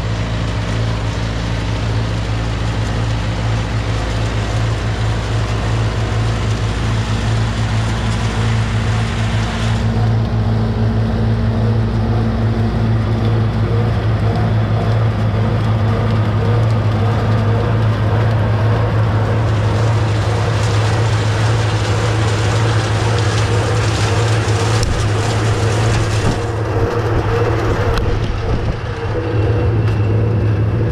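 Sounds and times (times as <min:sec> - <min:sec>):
tractor and machinery droning: 0:00.0 - 0:30.9.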